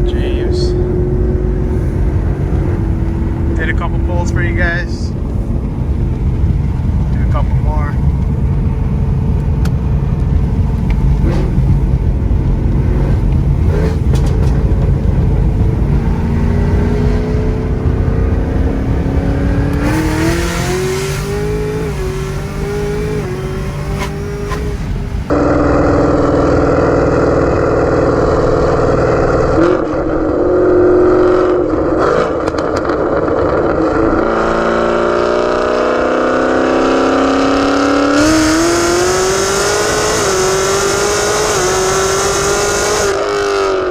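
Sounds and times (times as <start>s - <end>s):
car engine under hard acceleration: 0.0s - 43.9s.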